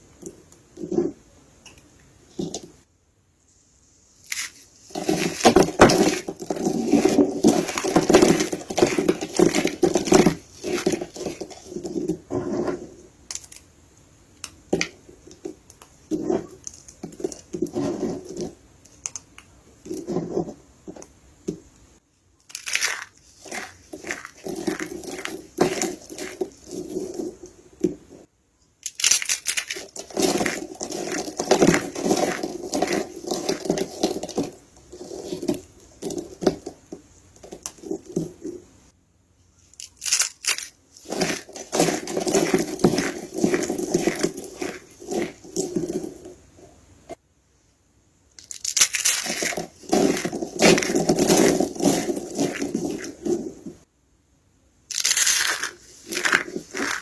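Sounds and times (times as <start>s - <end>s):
soap crunching and crackling: 4.2s - 13.7s, 14.4s - 21.7s, 22.5s - 28.2s, 28.8s - 38.7s, 39.7s - 46.4s, 48.4s - 53.8s, 54.9s - 57.0s.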